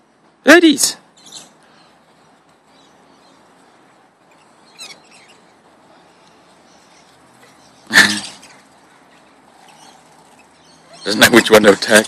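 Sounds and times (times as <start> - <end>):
parakeets chirping: 1.2 - 12.0.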